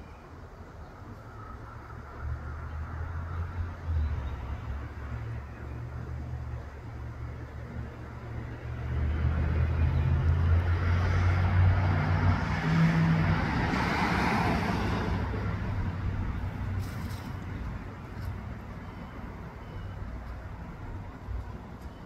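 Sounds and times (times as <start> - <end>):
vehicle passing: 1.7 - 19.5.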